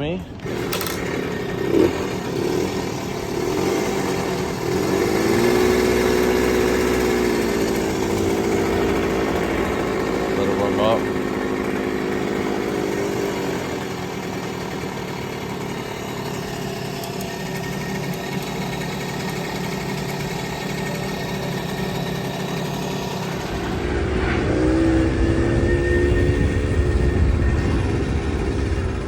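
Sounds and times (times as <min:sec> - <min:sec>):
motorcycle engine idling: 0:00.0 - 0:24.2.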